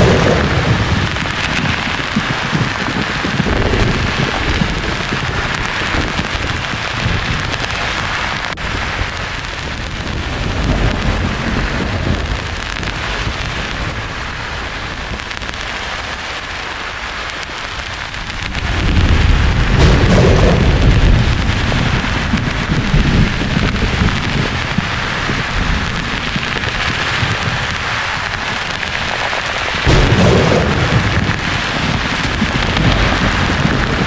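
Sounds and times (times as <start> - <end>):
low rolling thunder: 0.0 - 34.0
rain-like hiss: 0.0 - 34.0.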